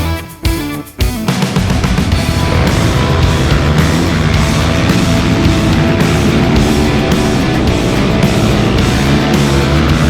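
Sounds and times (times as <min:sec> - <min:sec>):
heavy rock with distorted guitar: 0:00.0 - 0:10.0.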